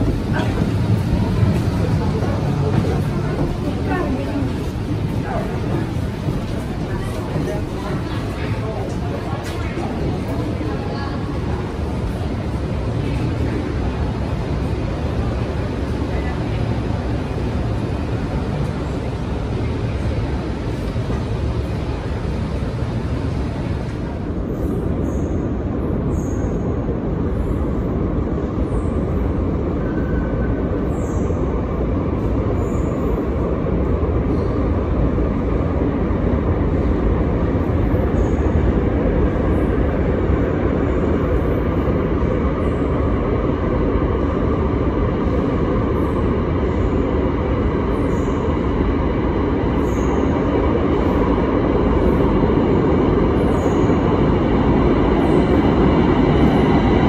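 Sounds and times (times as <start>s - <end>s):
metro train rumbling in tunnel: 0.0s - 57.0s.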